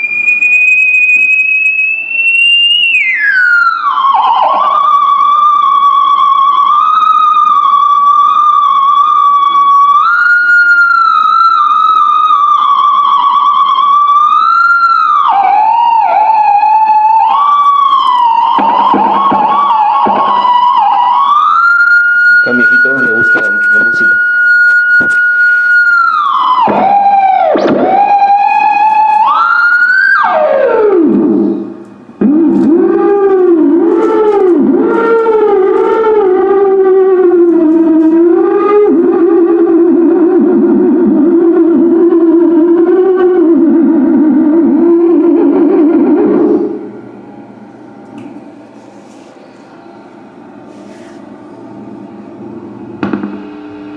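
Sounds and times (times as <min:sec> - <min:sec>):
wavering electronic theremin tone: 0:00.0 - 0:48.4.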